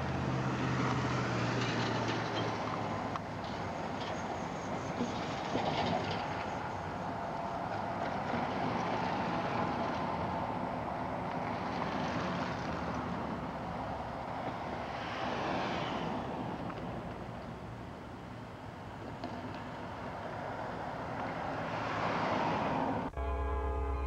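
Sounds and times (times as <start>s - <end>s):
distant train rumble: 0.0s - 20.3s
street noise: 0.0s - 24.0s.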